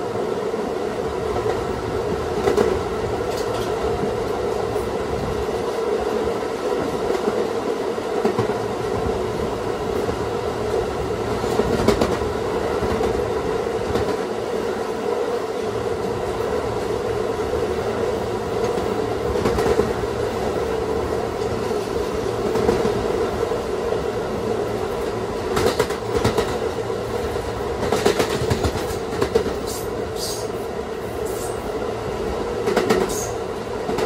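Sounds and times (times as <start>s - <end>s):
subway car hum: 0.0s - 34.0s.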